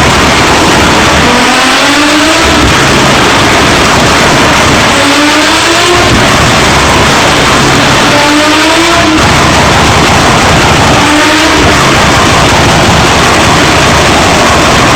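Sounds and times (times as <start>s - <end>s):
car engine revving: 0.0s - 14.9s
exhaust crackling and popping: 0.0s - 14.9s.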